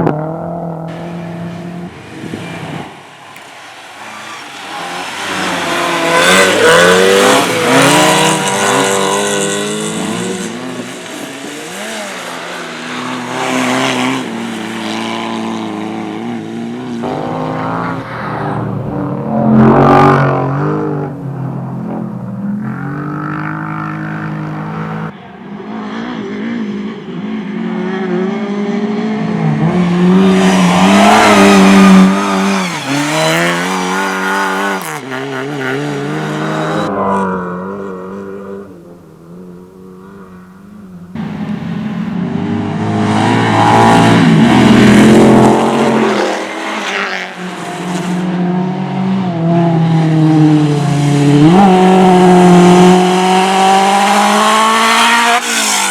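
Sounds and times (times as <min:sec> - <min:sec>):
rally cars revving past: 0:00.0 - 0:55.9.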